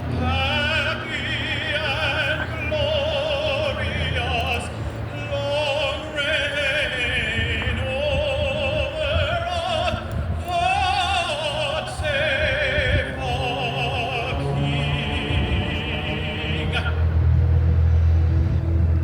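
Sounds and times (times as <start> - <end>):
person singing operatically: 0.0 - 17.2
low rumble: 0.0 - 19.0.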